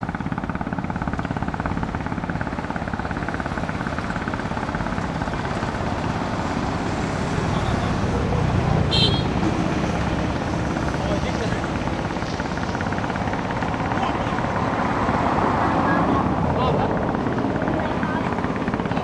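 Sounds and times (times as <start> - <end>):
engine running with fast pulsing: 0.0 - 19.0.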